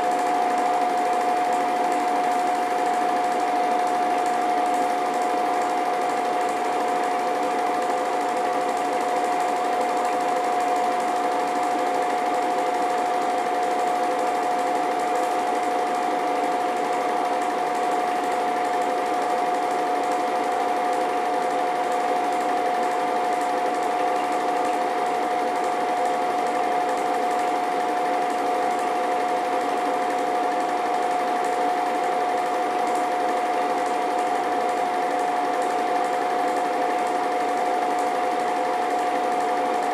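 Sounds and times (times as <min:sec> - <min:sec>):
film projector whine: 0:00.0 - 0:39.9
projector mechanical clatter: 0:00.0 - 0:39.9.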